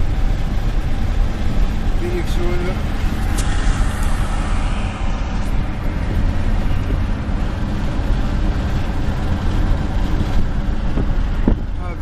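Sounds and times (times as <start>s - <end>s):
engine and tyres rumbling: 0.0s - 12.0s
wind and road hiss: 0.0s - 12.0s.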